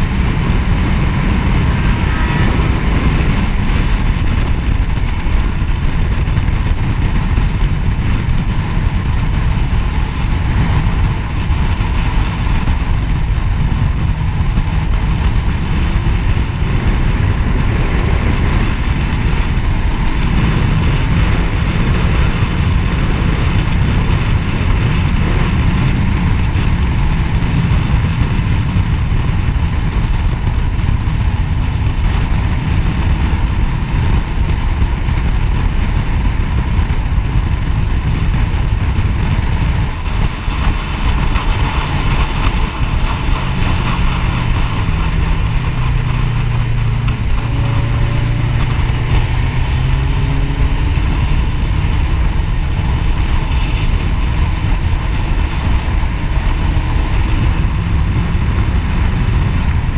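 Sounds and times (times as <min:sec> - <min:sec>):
motorcycle engine running: 0:00.0 - 0:59.9
wind rushing on microphone: 0:00.0 - 0:59.9.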